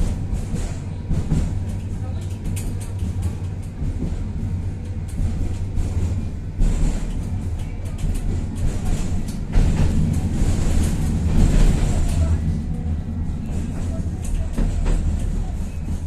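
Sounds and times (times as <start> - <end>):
tram jolts: 0.0 - 16.0
tram rumbling: 0.0 - 16.0.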